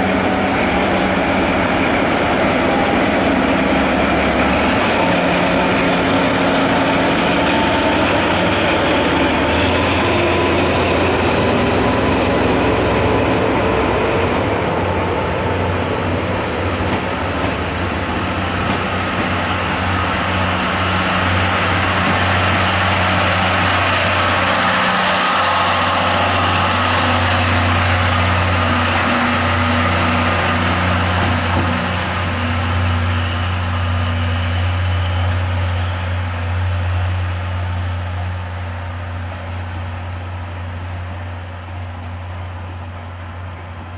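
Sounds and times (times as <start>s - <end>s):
diesel locomotive engine drone: 0.0s - 43.9s
train coaches rolling on rails: 0.0s - 43.9s.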